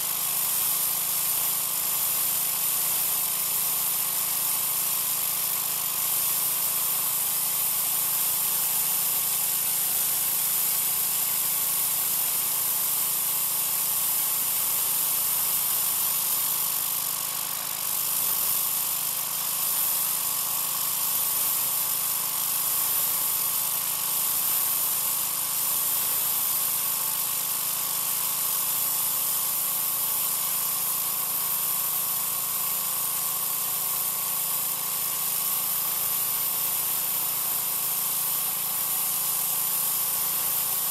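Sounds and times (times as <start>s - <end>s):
pressure washer engine running: 0.0s - 40.9s
water jet hissing on concrete: 0.0s - 40.9s.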